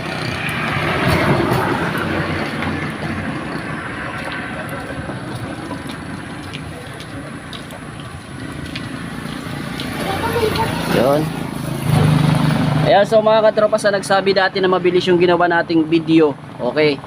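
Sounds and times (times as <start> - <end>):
traffic rumble: 0.0 - 17.0
vehicle passing: 0.0 - 17.0.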